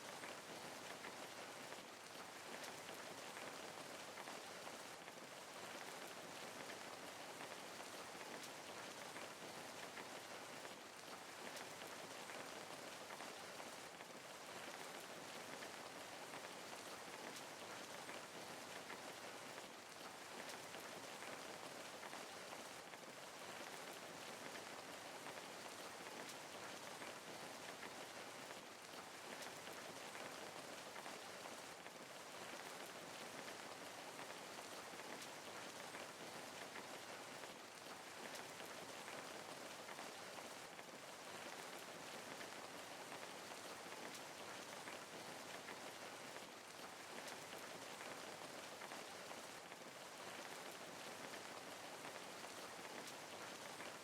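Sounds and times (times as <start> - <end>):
rain hissing on a surface: 0.0 - 54.0.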